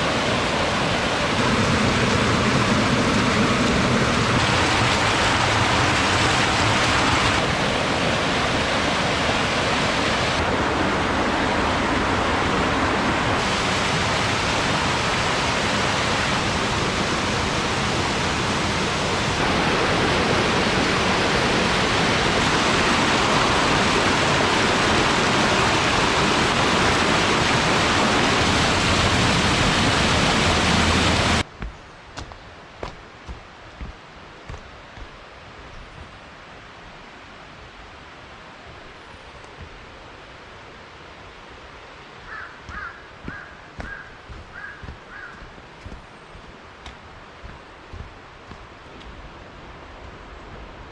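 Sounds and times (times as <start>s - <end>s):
stream rushing over rocks: 0.0s - 31.5s, 32.2s - 50.9s.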